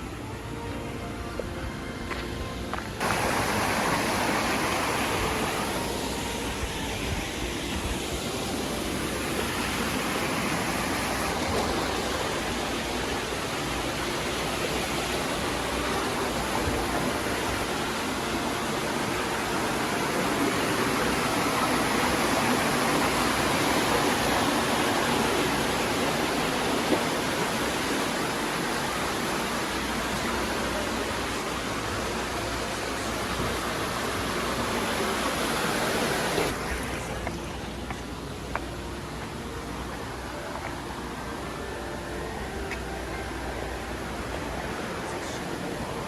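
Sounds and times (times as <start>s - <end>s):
running water rushing: 0.0s - 46.0s.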